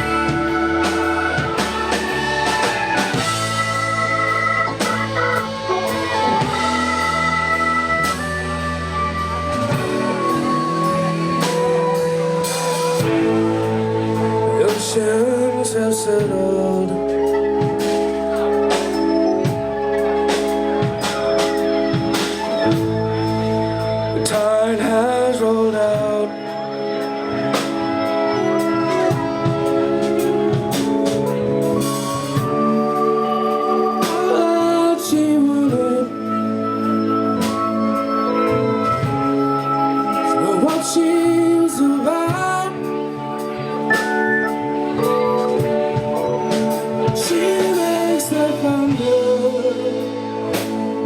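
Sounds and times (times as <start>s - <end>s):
drum kit: 0.0s - 36.3s, 37.4s - 51.0s
bass guitar: 0.0s - 51.0s
guitar: 0.0s - 51.0s.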